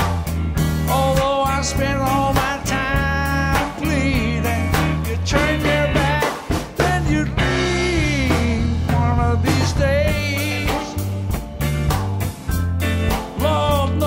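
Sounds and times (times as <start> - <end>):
bass guitar: 0.0 - 14.0
drums: 0.0 - 14.0.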